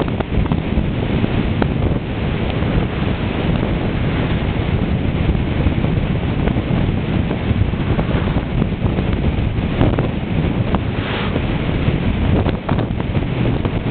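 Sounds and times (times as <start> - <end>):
car driving on road: 0.0 - 13.9
wind buffeting microphone: 0.0 - 13.9.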